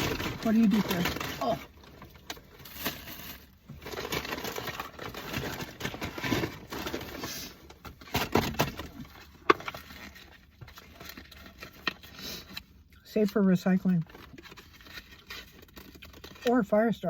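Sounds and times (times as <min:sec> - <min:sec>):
paper packaging rustling: 0:00.0 - 0:16.8.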